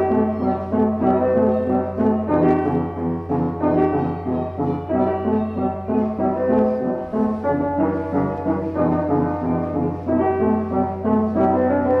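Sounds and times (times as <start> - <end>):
instrumental boogie music: 0.0 - 12.0.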